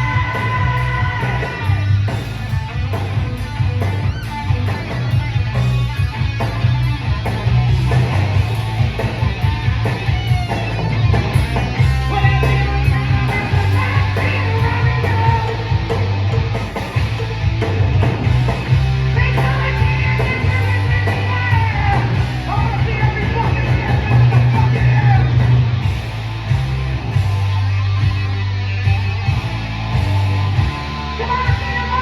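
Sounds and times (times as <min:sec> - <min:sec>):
heavy metal band playing: 0:00.0 - 0:32.0
high wavering lead guitar: 0:00.0 - 0:32.0.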